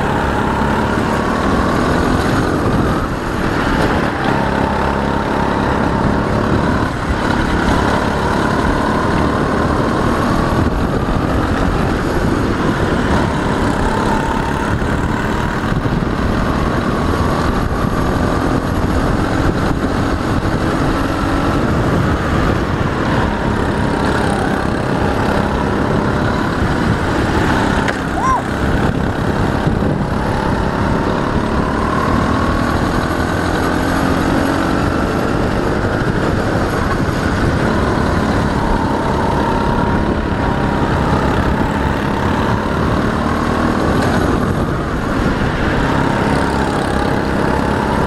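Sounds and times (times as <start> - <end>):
go-kart engine running hard: 0.0 - 48.0.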